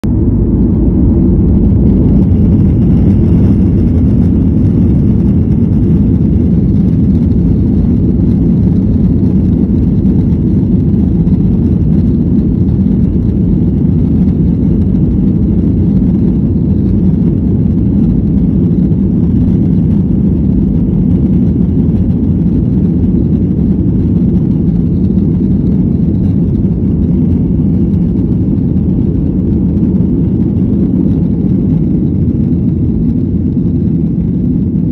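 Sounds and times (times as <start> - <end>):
jet engine rumble in cabin: 0.0 - 34.9.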